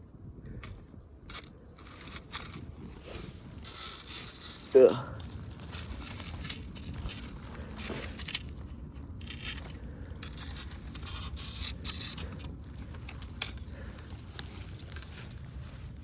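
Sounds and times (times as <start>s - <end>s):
scraping and rustling: 1.3s - 16.0s.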